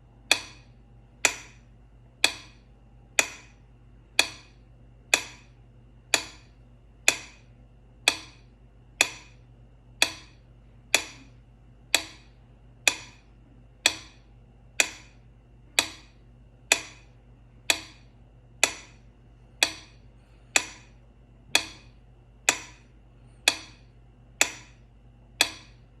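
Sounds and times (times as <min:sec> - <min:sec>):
metronome ticking: 0:00.2 - 0:26.0.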